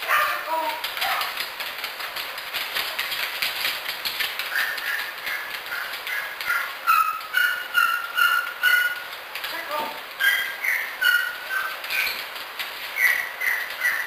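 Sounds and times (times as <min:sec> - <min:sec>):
dog claws clicking on wooden floor: 0:00.1 - 0:14.0
walking cane tapping on floor: 0:00.2 - 0:14.0.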